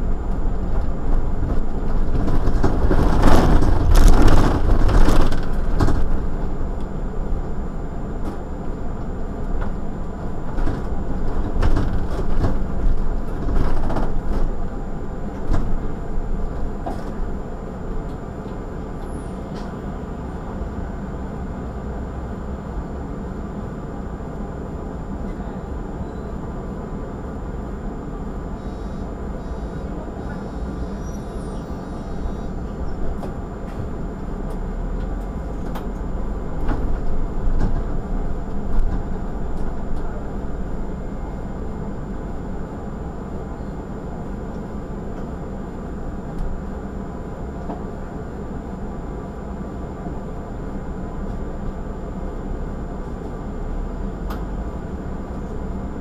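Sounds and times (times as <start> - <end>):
bus engine and road noise: 0.0 - 56.0
bus engine drone: 0.0 - 56.0.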